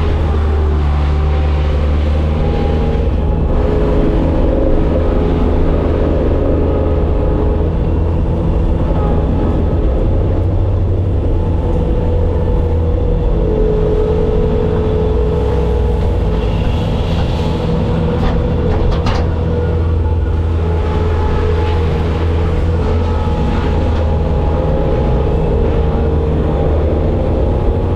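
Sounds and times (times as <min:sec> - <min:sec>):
skid steer diesel engine running: 0:00.0 - 0:27.9.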